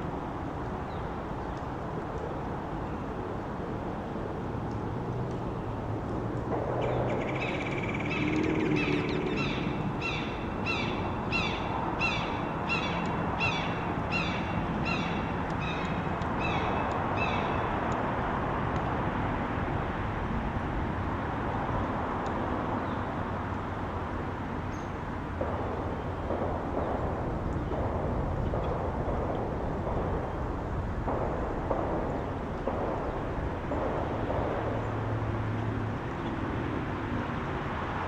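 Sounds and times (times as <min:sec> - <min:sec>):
outdoor background rumble: 0:00.0 - 0:38.0.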